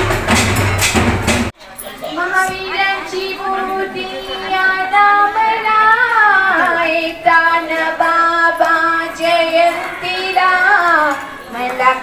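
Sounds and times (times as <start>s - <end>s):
woman singing into a microphone: 2.1s - 12.0s.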